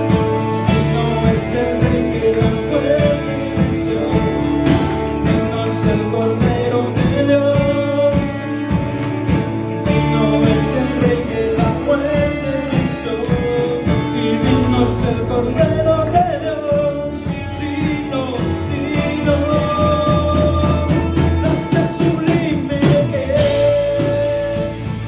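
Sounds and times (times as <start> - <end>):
band playing gospel music: 0.0 - 25.0
man singing into a microphone: 0.0 - 25.0.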